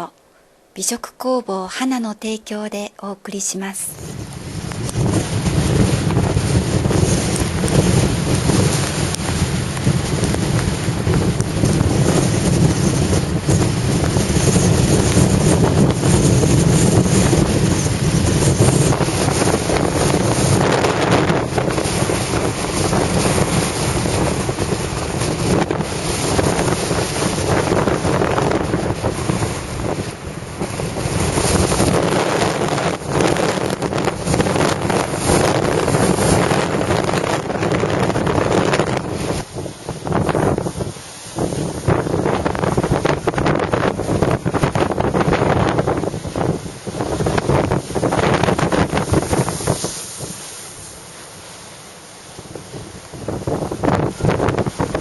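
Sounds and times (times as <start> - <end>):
surf rushing: 3.9 - 55.0
wind buffeting microphone: 3.9 - 55.0.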